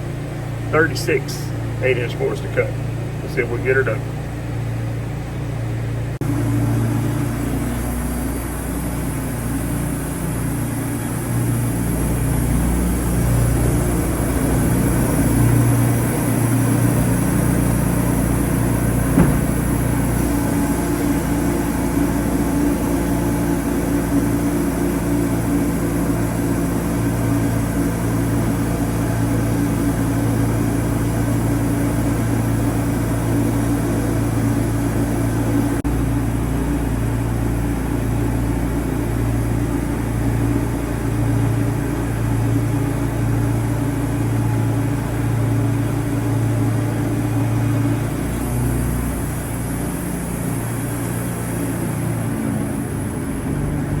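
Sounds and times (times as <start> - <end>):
sawmill engine hum: 0.0 - 54.0.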